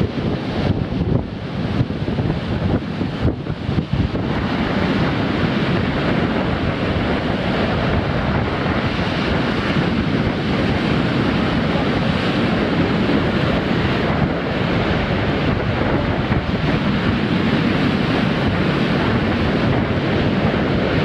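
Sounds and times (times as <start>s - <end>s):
surf breaking on a beach: 0.0s - 21.0s
wind buffeting the microphone: 0.0s - 21.0s.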